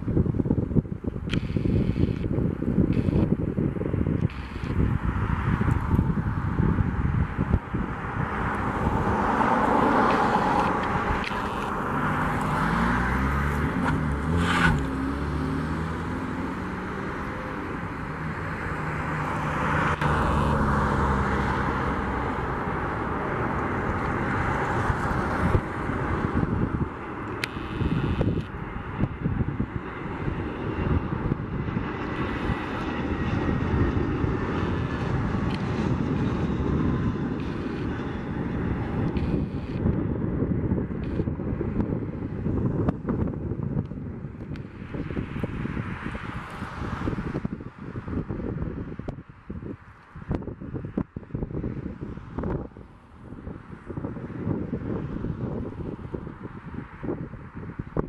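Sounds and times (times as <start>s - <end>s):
jet engines rumbling: 0.0s - 49.2s
wind buffeting microphone: 0.0s - 58.0s.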